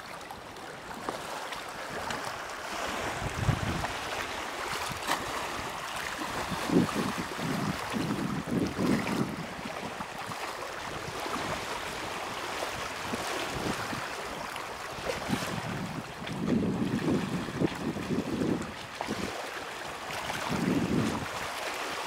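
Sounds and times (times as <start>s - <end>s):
waves lapping and splashing: 0.0s - 22.0s
wind buffeting microphone: 1.9s - 19.4s, 20.0s - 21.6s.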